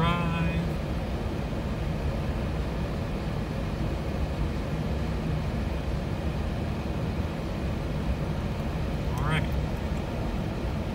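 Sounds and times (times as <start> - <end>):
vehicle engine and tyre rumble: 0.0 - 10.9.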